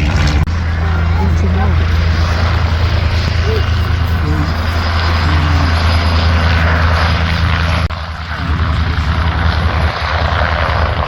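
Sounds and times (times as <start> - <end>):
aircraft engine humming: 0.0 - 11.0.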